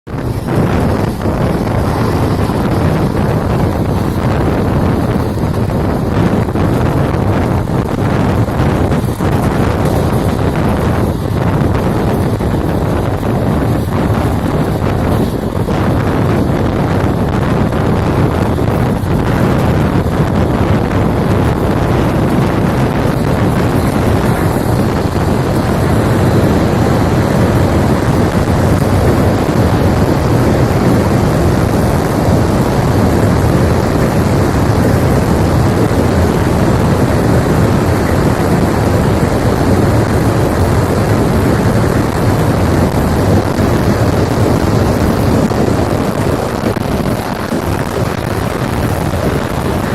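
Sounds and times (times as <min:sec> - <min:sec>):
wind buffeting microphone: 0:00.0 - 0:49.9
low rumble: 0:00.1 - 0:49.9.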